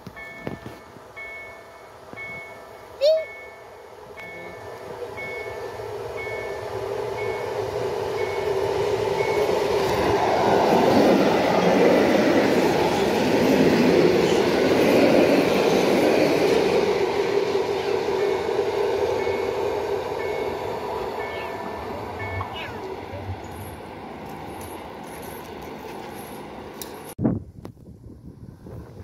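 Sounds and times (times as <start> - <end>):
train passing with rumbling wheels: 0.0 - 27.2.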